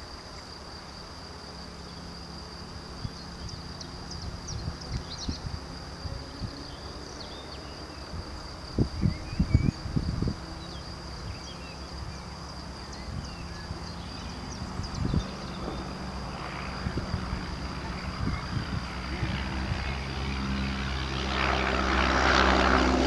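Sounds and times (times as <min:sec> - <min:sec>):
high-pitched insect drone: 0:00.1 - 0:23.0
wind buffeting microphone: 0:02.9 - 0:23.0.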